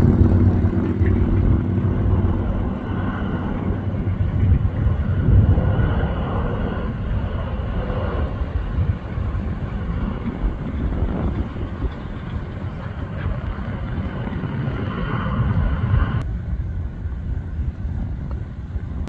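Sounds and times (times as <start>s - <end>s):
distant jet engines rumbling: 0.0s - 19.0s
wind buffeting microphone: 0.0s - 19.0s.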